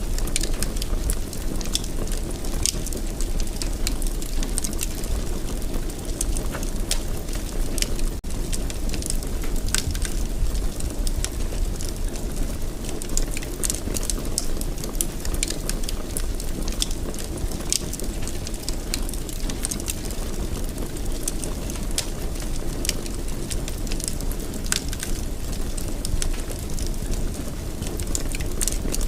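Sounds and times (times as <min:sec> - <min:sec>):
burning wood crackling and popping: 0:00.0 - 0:29.0
low rumble of flames: 0:00.0 - 0:29.0.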